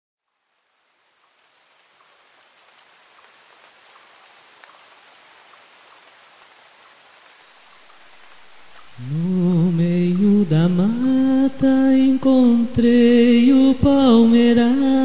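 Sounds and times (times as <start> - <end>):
crickets trilling: 0.2 - 15.0.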